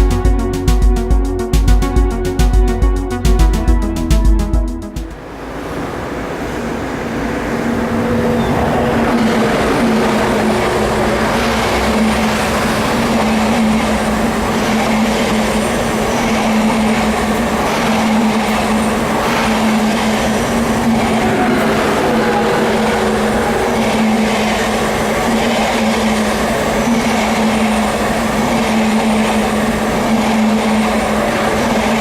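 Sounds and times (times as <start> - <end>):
electric train passing: 4.8 - 32.0.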